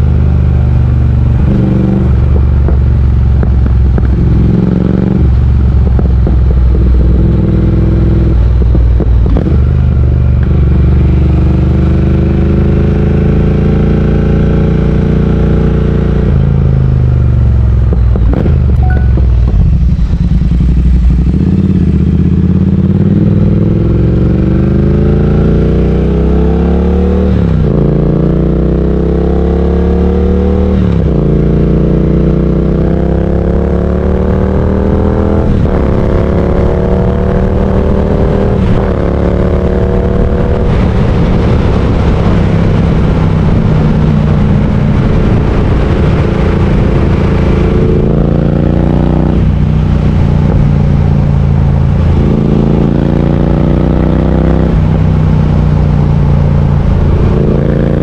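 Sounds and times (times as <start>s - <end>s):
motorcycle engine under way: 0.0s - 58.0s.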